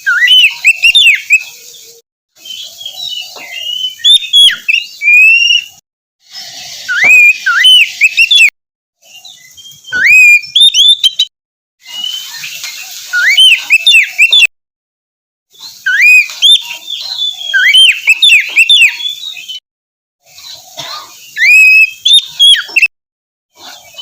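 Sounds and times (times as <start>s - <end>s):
bird singing whistles: 0.0s - 5.8s, 6.4s - 14.5s, 15.6s - 19.6s, 21.2s - 22.9s.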